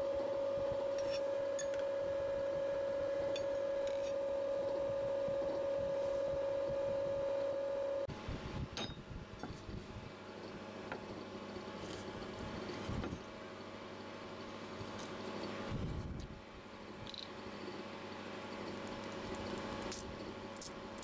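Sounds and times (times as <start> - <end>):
mid-pitched hum: 0.0 - 21.0.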